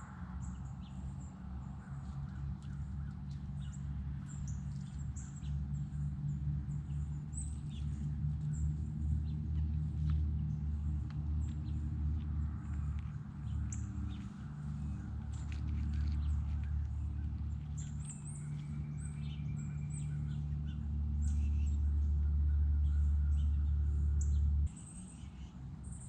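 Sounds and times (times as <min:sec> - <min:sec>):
steady low hum: 0:00.0 - 0:26.0
small birds chirping: 0:00.4 - 0:26.0.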